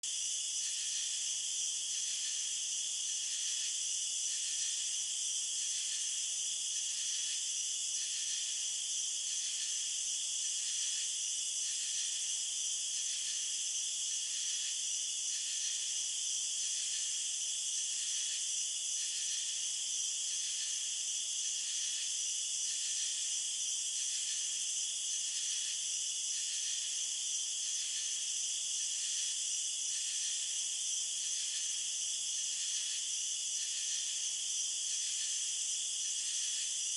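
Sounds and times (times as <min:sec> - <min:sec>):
crickets chirping: 0:00.0 - 0:36.9.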